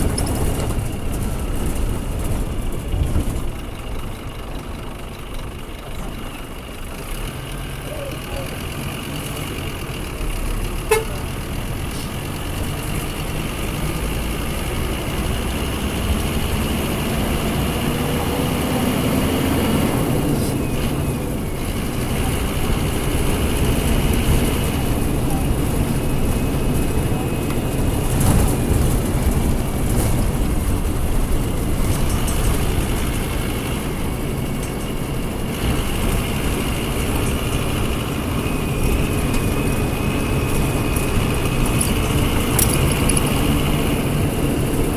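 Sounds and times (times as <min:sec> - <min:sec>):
diesel bus engine running: 0:00.0 - 0:44.9.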